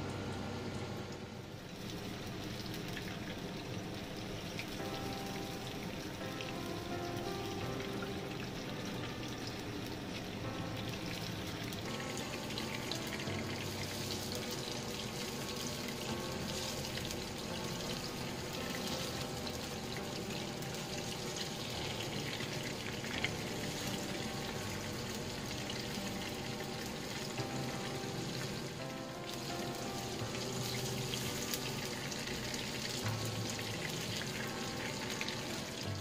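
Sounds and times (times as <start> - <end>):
background music: 0.0 - 36.0
fish sizzling in oil: 0.0 - 36.0.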